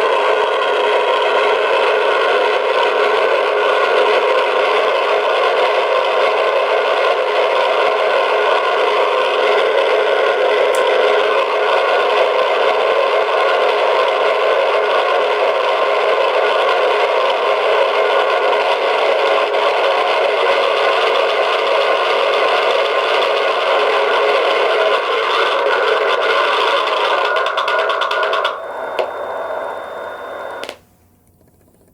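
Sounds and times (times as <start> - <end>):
piston engine sound from small speaker: 0.0 - 31.9.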